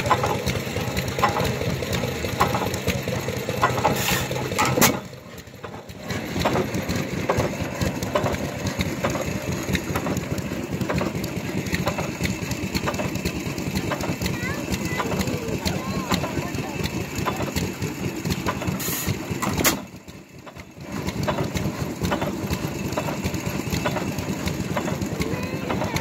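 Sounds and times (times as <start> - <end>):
gas engine running with knocks: 0.0 - 26.0.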